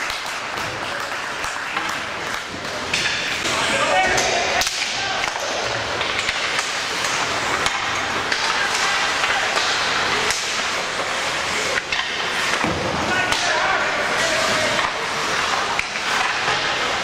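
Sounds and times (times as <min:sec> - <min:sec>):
hockey sticks and puck clacking: 0:00.0 - 0:17.0
skates scraping on ice: 0:00.0 - 0:17.0.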